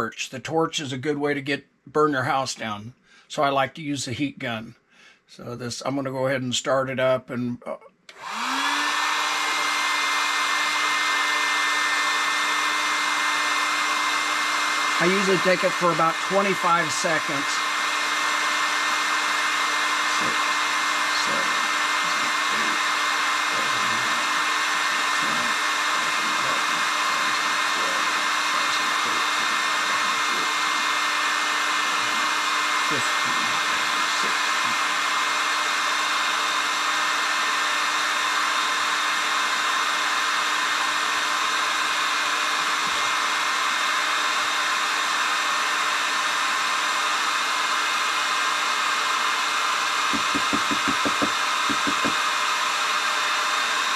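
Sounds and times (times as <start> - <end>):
heat gun blowing hot air: 8.1 - 53.9.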